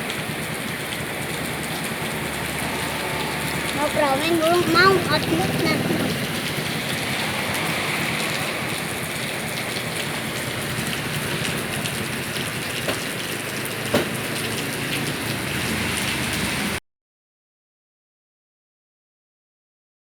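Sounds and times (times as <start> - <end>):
steady rain: 0.0 - 16.8.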